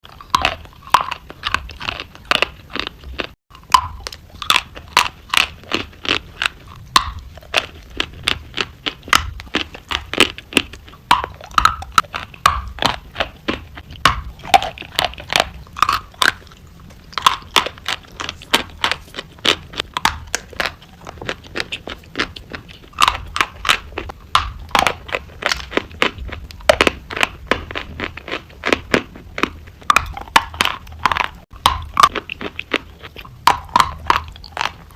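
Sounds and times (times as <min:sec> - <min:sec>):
chewing crunchy food: 0:00.0 - 0:34.9.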